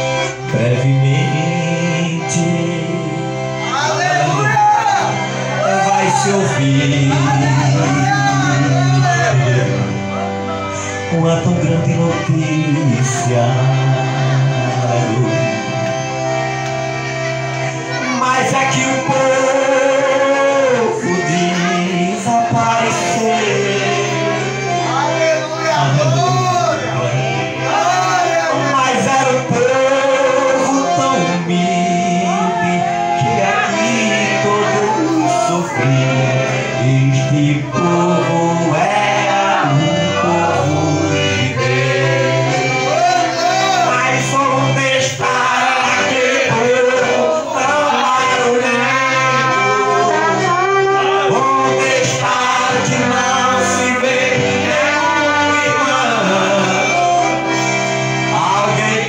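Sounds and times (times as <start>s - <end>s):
man singing: 0.0s - 16.0s, 17.9s - 59.0s
piano accordion playing: 0.0s - 59.0s.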